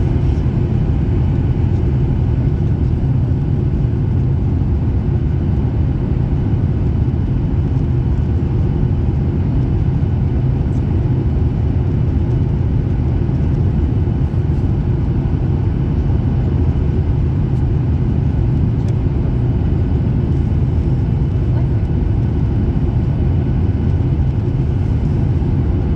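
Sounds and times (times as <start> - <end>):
airliner cabin rumble: 0.0 - 25.9.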